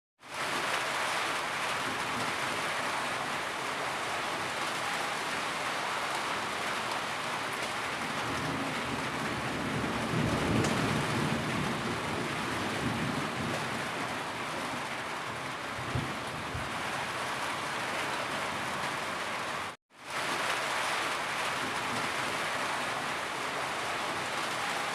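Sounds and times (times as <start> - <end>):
heavy rain falling: 0.2 - 24.9.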